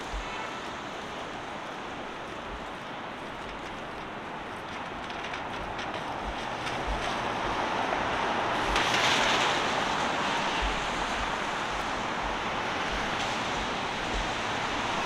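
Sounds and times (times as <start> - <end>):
steady hiss of traffic: 0.0 - 15.0.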